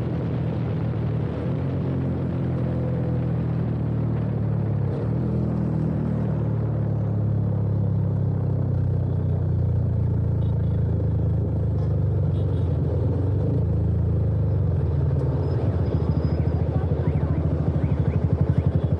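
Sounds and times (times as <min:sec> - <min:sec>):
motorcycle engine running steadily: 0:00.0 - 0:18.9.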